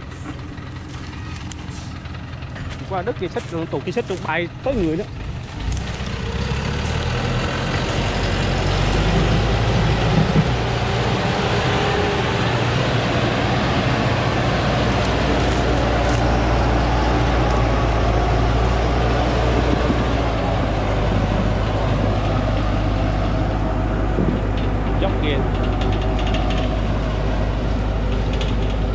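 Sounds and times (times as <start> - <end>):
truck diesel engine under load: 0.0 - 28.9.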